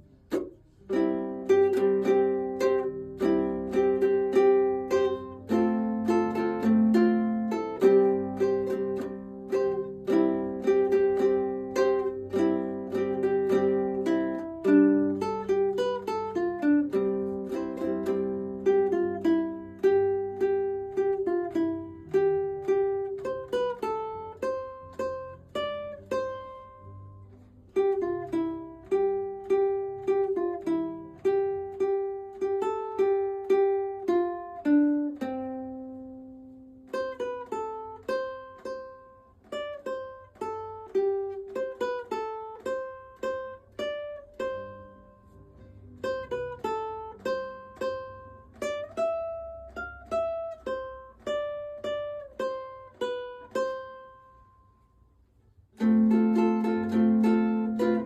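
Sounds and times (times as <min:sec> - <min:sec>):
plucked-string melody: 0:00.0 - 0:58.0.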